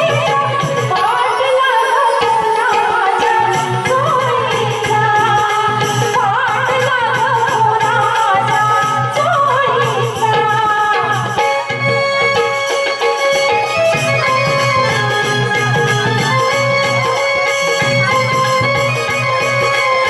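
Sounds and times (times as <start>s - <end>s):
keyboard: 0.0s - 20.0s
steady drum rhythm: 0.0s - 20.0s.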